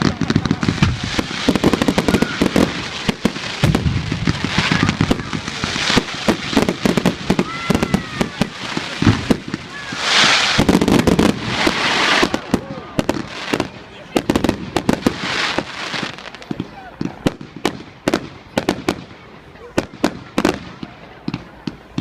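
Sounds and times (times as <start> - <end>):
fireworks bangs and crackles: 0.0 - 22.0
hissing crackle of fireworks: 0.0 - 22.0.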